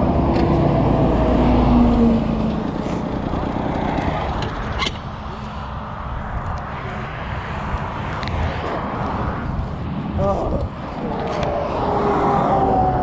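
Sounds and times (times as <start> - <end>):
heavy truck passing: 0.0 - 13.0.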